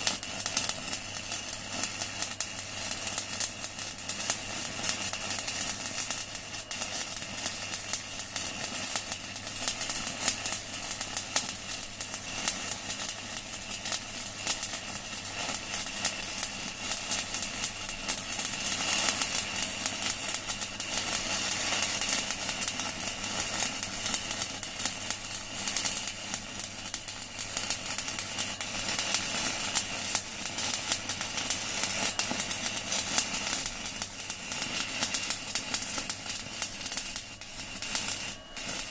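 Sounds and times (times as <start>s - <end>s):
welding arc crackling and sizzling: 0.0s - 38.9s.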